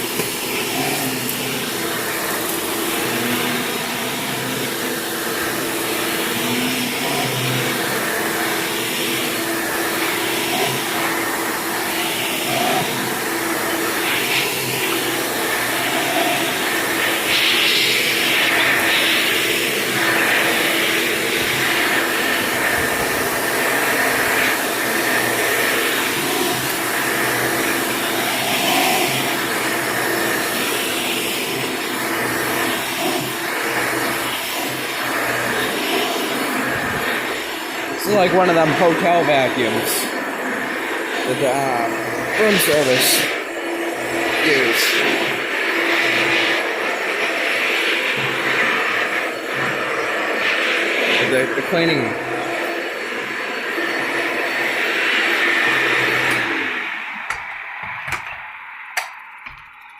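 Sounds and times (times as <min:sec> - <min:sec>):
upright vacuum cleaner running: 0:00.0 - 0:59.9.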